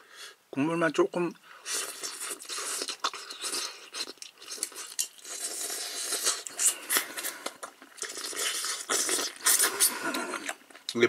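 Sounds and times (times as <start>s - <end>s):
person sipping broth: 1.6s - 10.7s
person chewing: 1.6s - 11.0s.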